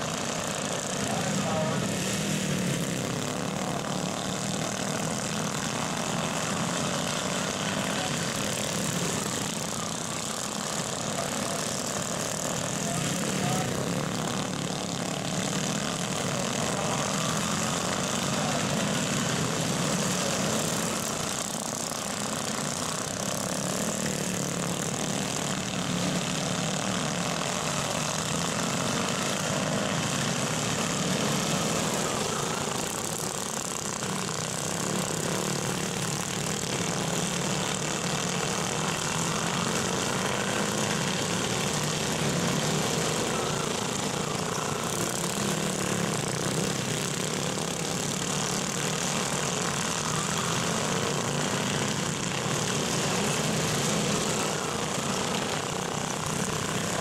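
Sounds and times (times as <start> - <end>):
small engines droning: 0.0 - 57.0.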